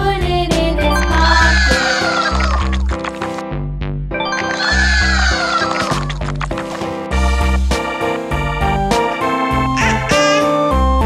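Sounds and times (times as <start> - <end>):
upbeat children's music: 0.0 - 3.4, 4.1 - 11.0.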